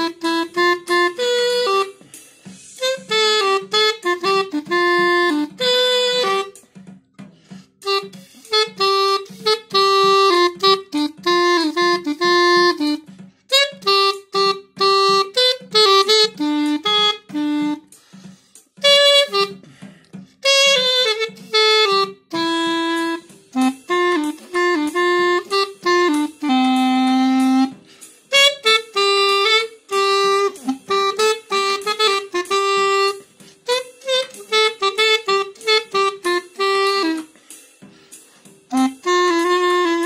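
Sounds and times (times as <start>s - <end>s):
clarinet playing melody: 0.0s - 6.7s, 7.8s - 37.5s, 38.7s - 40.0s
steady background beat: 0.0s - 40.0s.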